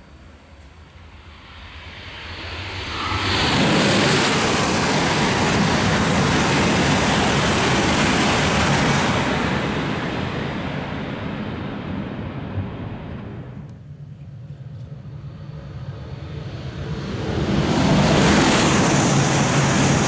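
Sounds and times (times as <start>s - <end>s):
train rushing past at high speed: 1.0s - 13.6s, 15.2s - 20.0s.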